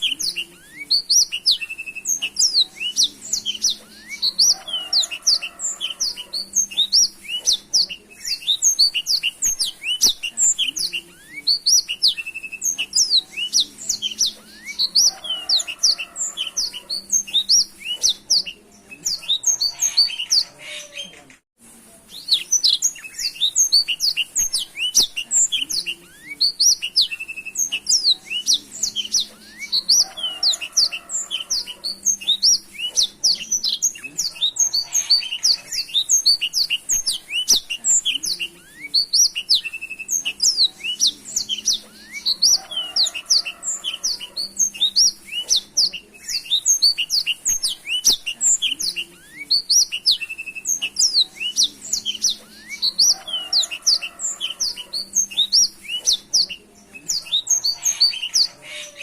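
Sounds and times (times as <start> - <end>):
canary singing: 0.0 - 21.4, 22.0 - 59.0.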